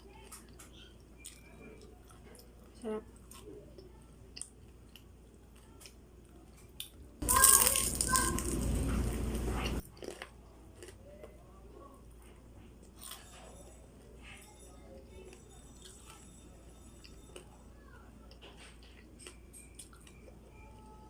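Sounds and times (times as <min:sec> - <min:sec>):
faint crunchy chewing: 0:00.0 - 0:16.3, 0:17.0 - 0:20.9
low steady background noise: 0:00.0 - 0:21.0.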